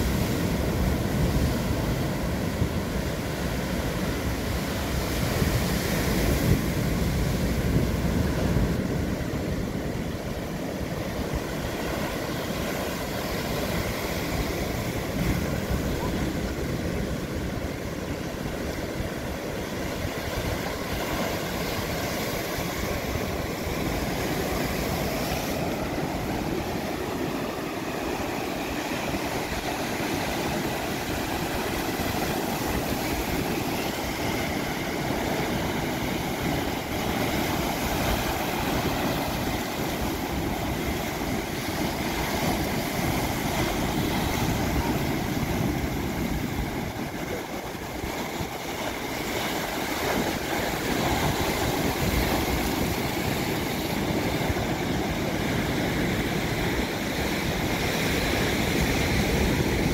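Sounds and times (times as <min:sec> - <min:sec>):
surf breaking over boulders: 0:00.0 - 0:59.9.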